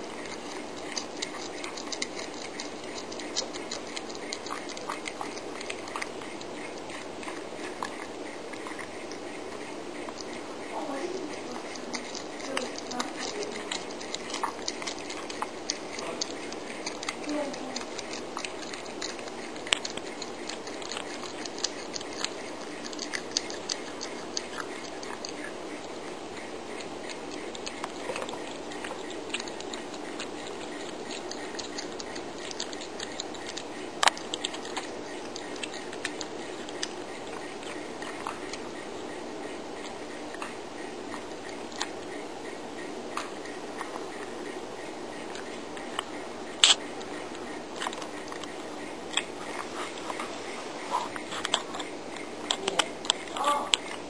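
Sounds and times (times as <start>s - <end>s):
cat chewing meat: 0.0s - 54.0s.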